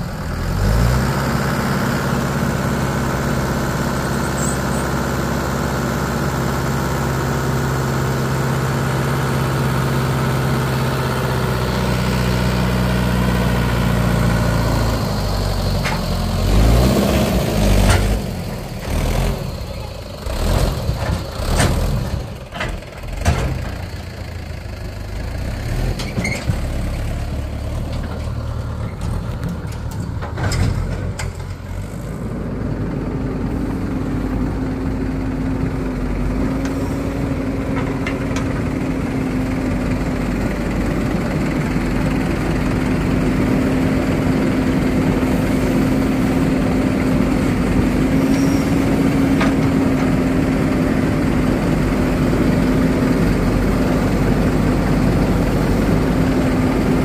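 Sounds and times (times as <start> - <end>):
diesel engines droning: 0.0 - 57.0.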